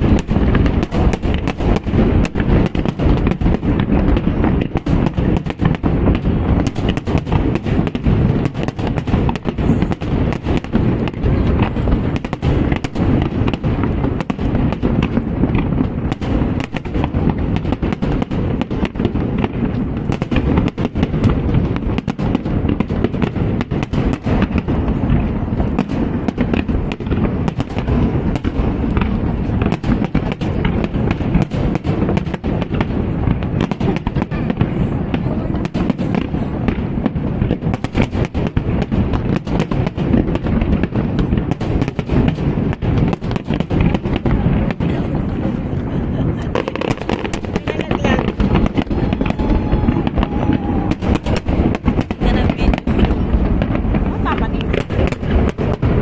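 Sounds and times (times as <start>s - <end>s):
deep fireworks booms: 0.0s - 56.0s
fireworks bangs and crackles: 0.0s - 56.0s.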